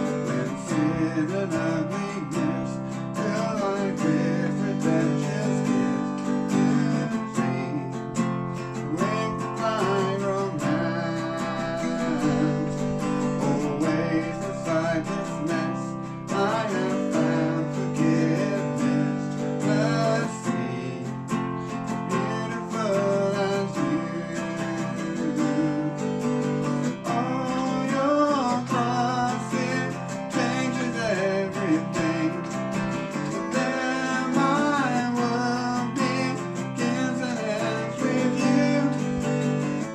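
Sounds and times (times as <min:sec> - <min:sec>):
person singing: 0:00.0 - 0:39.9
strummed acoustic guitar: 0:00.0 - 0:39.9.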